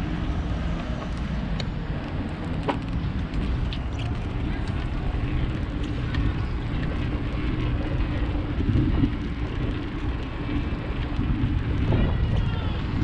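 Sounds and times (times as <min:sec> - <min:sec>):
bicycle rolling rumble: 0:00.0 - 0:13.0
wind on microphone: 0:00.0 - 0:13.0.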